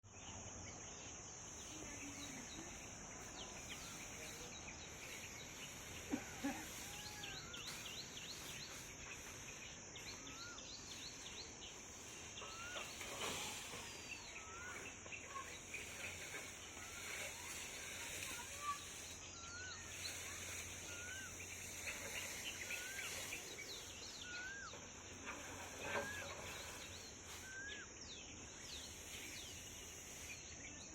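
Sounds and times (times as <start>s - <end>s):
birds chirping and whistling: 0.1s - 30.9s
high-pitched insect drone: 0.8s - 30.9s.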